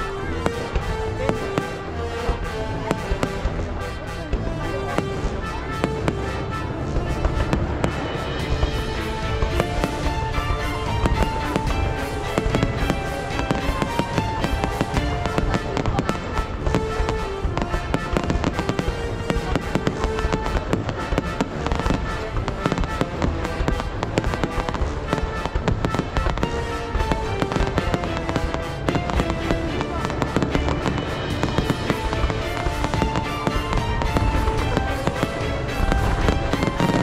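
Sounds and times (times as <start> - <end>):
background music with melody: 0.0 - 37.0
fireworks bangs and crackles: 0.0 - 37.0.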